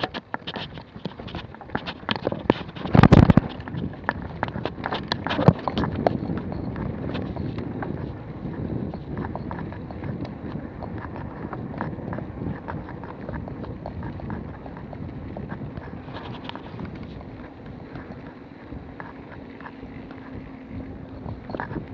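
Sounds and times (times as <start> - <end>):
bike rattling and knocking: 0.0 - 21.9
scattered clicks: 0.0 - 21.9
tyres crunching over dirt: 0.0 - 21.9.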